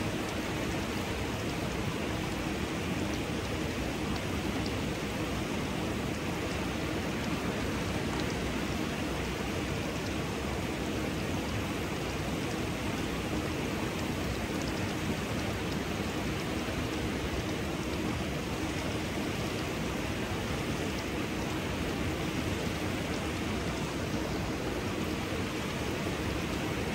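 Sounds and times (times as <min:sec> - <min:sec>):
faint water drips: 0:00.0 - 0:26.9
waterfall rushing: 0:00.0 - 0:26.9.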